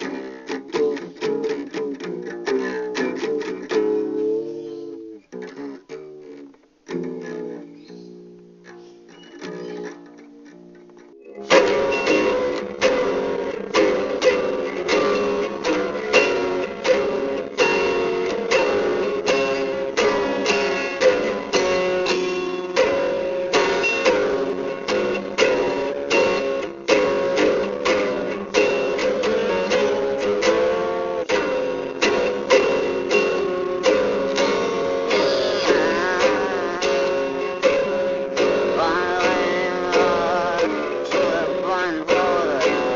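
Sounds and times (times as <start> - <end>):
strummed string instrument: 0.0 - 42.9.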